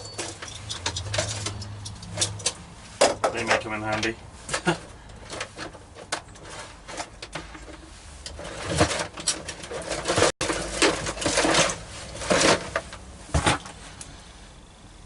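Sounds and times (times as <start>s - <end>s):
clatter of objects: 0.0s - 13.9s
small objects rustling and knocking: 0.0s - 14.0s.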